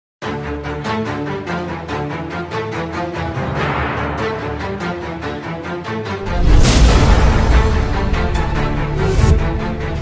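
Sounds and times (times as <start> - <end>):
theme music with pulsing beat: 0.2 - 10.0.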